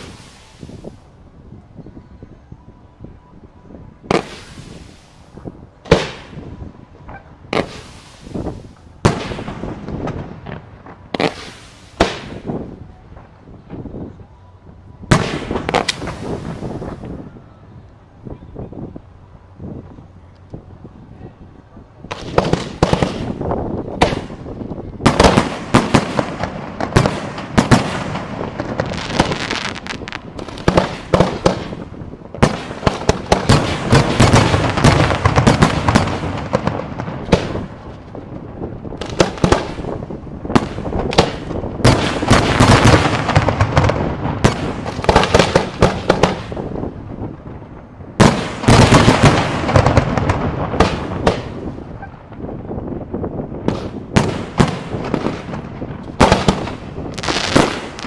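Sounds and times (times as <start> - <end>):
fireworks bangs and crackle: 0.0 - 1.1, 4.0 - 14.2, 15.0 - 17.3, 22.0 - 58.0.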